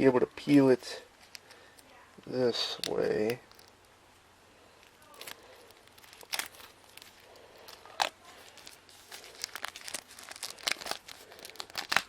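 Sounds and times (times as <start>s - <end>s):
plastic shrink wrap crinkling: 1.1s - 12.0s.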